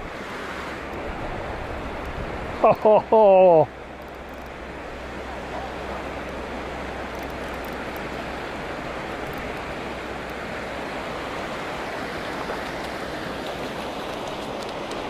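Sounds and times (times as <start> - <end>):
water rushing over a weir: 0.0 - 15.0.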